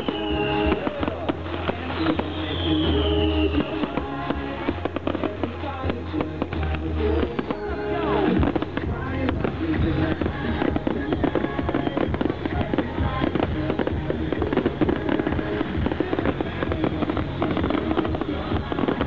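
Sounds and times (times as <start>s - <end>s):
fireworks bangs and crackles: 0.0s - 19.0s
music playing: 0.0s - 19.0s.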